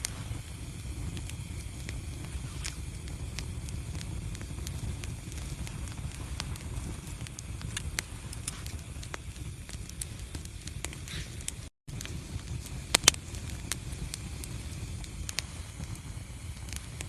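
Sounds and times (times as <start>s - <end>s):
sharp pops of fire: 0.0s - 17.0s
wood fire crackling: 0.0s - 17.0s.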